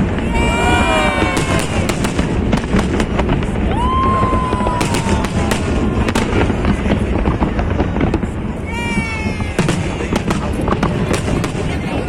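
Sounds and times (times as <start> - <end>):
fireworks bangs and crackles: 0.0 - 12.0
whistling firework: 0.0 - 12.0.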